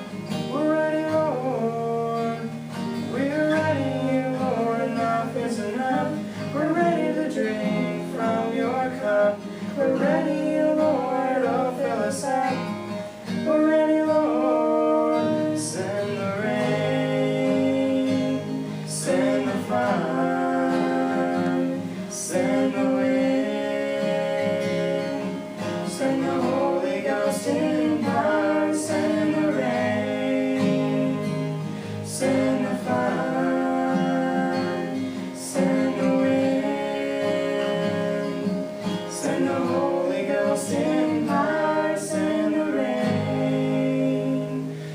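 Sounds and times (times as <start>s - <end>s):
guitar accompaniment: 0.0s - 44.9s
man and woman singing gospel duet: 0.0s - 44.9s.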